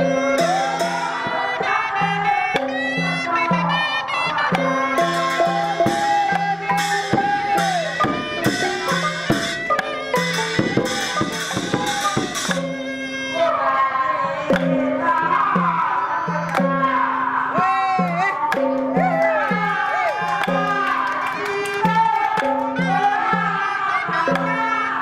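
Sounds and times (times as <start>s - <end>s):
woman singing into microphone: 0.0s - 9.7s, 12.2s - 25.0s
hand percussion: 0.0s - 25.0s.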